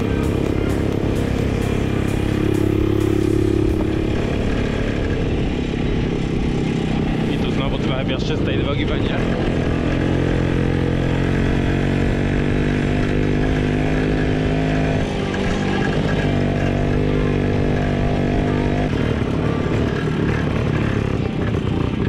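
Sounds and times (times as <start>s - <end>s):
two-stroke motorcycle engine running: 0.0s - 22.0s.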